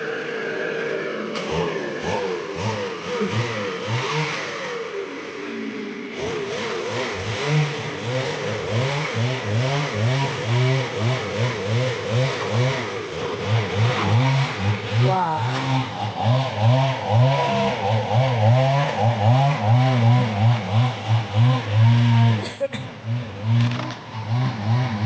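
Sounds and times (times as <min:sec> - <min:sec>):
engine revving: 0:00.0 - 0:25.0.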